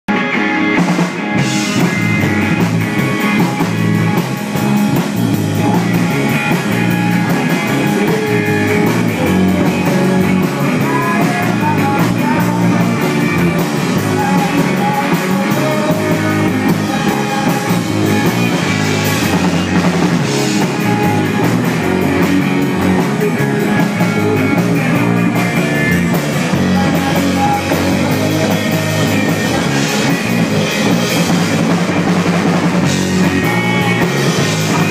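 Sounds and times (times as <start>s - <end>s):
bass guitar: 0.0s - 34.9s
distorted electric guitar: 0.1s - 34.9s
drum kit: 0.1s - 34.9s
man singing: 5.6s - 31.5s, 32.8s - 34.9s.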